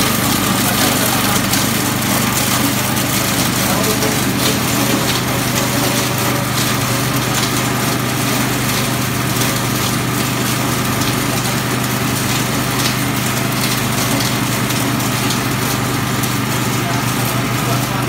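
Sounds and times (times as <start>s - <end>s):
plastic crusher machine running: 0.0s - 18.0s.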